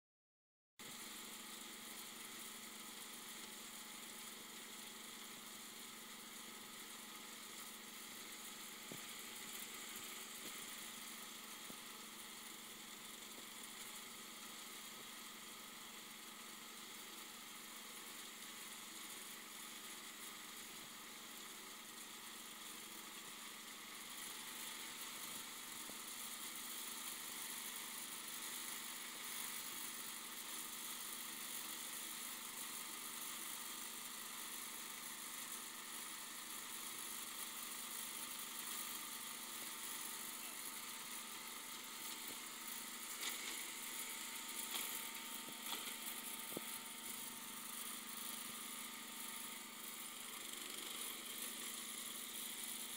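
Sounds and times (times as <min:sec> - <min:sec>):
garden tractor engine running: 0:00.8 - 0:52.9.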